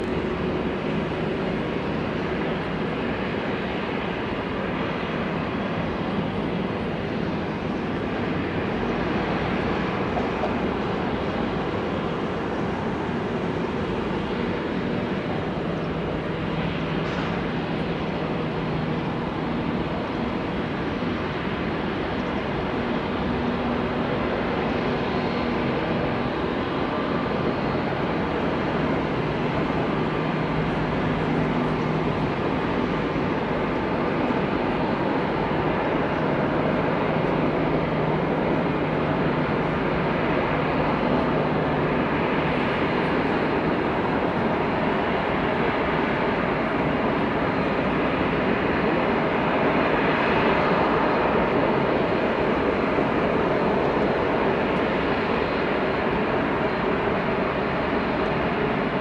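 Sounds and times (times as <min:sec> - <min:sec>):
jet engine noise: 0:00.0 - 0:59.0.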